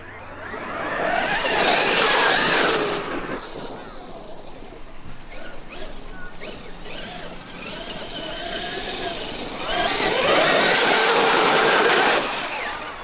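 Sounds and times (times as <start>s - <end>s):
rc truck electric motor whining: 0.0s - 13.0s.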